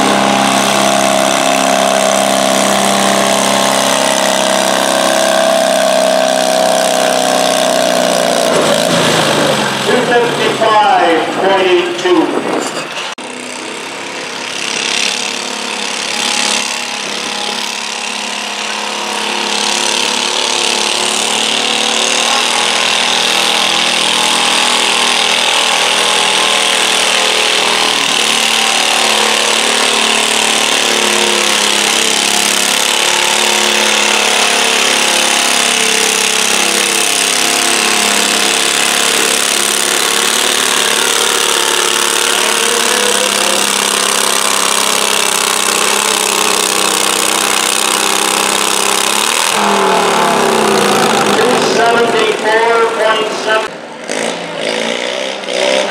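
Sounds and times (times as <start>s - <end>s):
tractor engine at full throttle: 0.0s - 55.9s.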